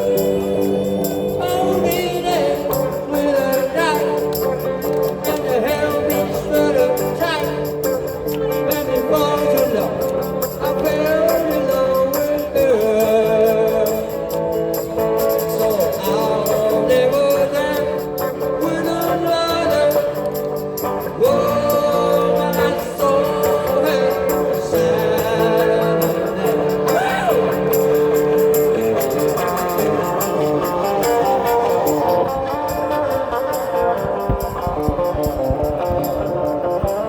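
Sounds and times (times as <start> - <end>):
guitar accompaniment: 0.0 - 37.0.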